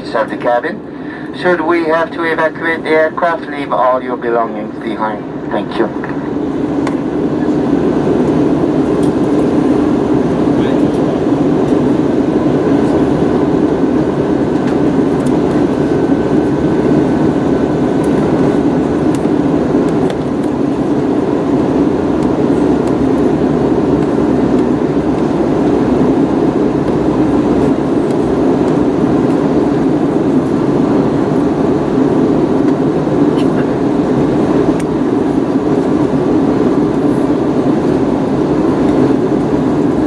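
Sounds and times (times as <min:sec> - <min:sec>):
airliner cabin engine rumble: 0:00.0 - 0:40.0.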